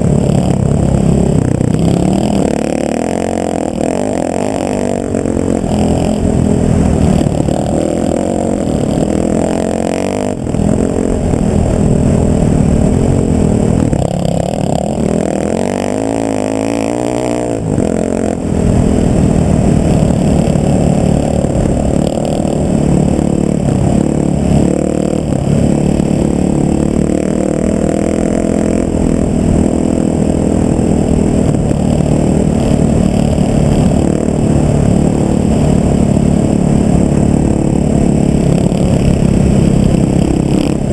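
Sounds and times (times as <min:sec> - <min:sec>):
road noise: 0:00.0 - 0:40.9
vehicle engine running: 0:00.0 - 0:40.9.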